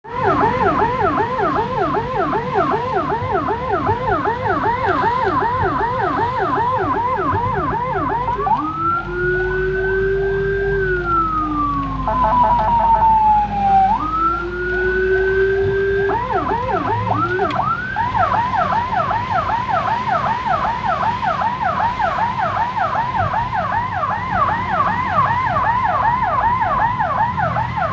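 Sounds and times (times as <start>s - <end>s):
ambulance siren yelping and wailing: 0.0s - 27.9s.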